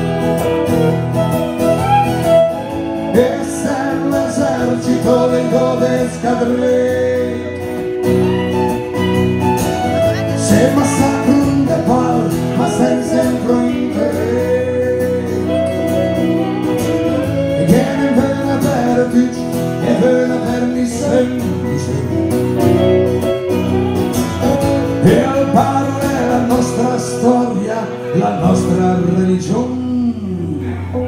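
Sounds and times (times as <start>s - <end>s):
violin melody: 0.0s - 29.2s
strummed acoustic guitar: 0.0s - 31.0s.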